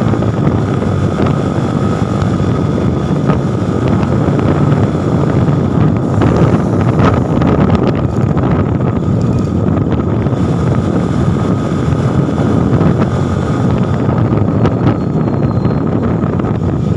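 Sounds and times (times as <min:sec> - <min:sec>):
motorcycle engine and exhaust: 0:00.0 - 0:16.9
wind rushing over microphone: 0:00.0 - 0:16.9.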